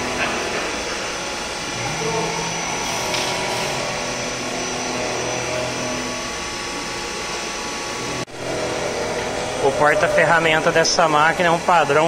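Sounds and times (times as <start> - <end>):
machine whining tones: 0.0 - 12.0
milling machine motor hum: 0.0 - 12.0.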